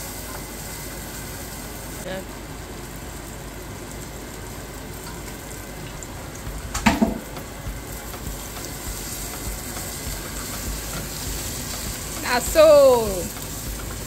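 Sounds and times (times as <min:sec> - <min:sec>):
oil sizzling in a pot: 0:00.0 - 0:14.0.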